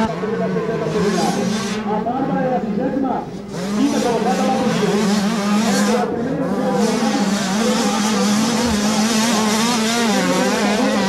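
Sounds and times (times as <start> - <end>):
motocross bike engines racing: 0.0 - 11.0.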